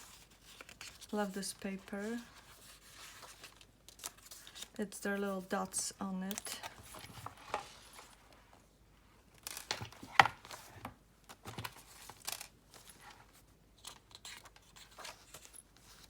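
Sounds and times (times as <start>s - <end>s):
paper pages rustling: 0.0s - 8.2s, 9.6s - 16.0s.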